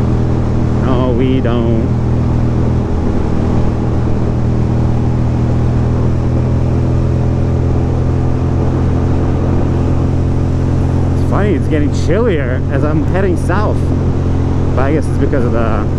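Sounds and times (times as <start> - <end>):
motorcycle engine cruising: 0.0 - 15.9.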